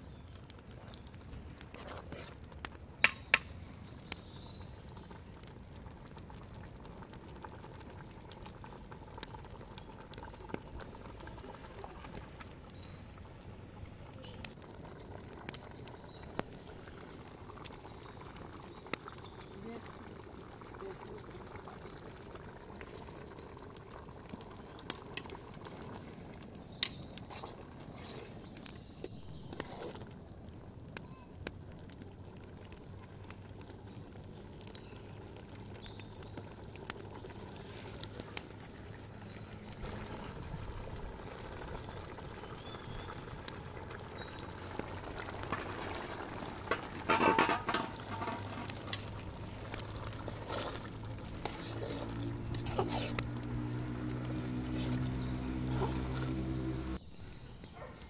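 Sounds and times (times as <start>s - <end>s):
fire clicks and pops: 0.0s - 19.6s, 21.6s - 57.8s
pot of food boiling: 0.0s - 57.8s.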